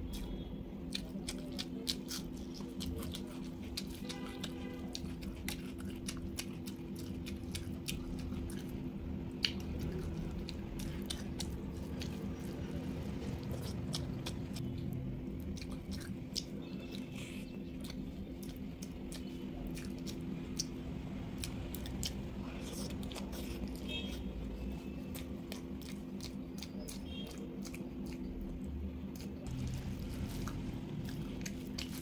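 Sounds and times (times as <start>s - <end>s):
chewing and wet lip smacking: 0.0s - 32.0s.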